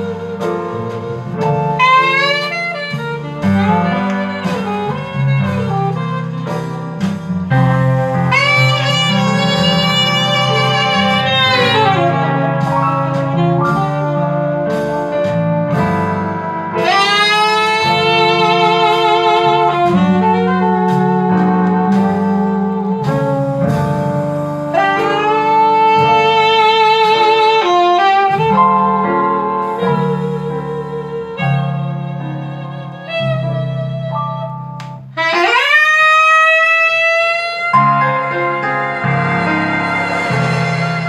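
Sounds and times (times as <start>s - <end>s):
instrumental music through loudspeaker: 0.0s - 41.0s.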